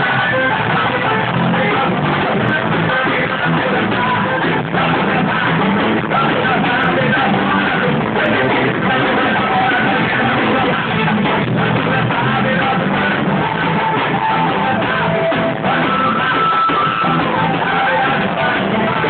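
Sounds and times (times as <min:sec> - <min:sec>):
forro music playing: 0:00.0 - 0:19.0.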